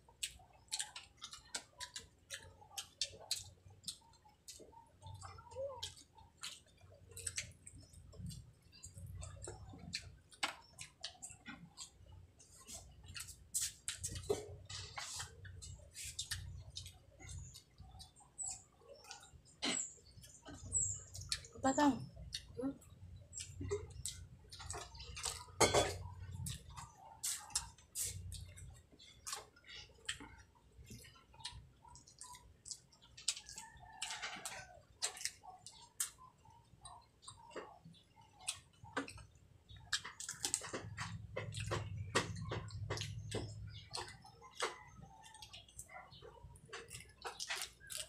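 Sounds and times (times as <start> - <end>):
wet chewing and lip-smacking: 0.0 - 48.0.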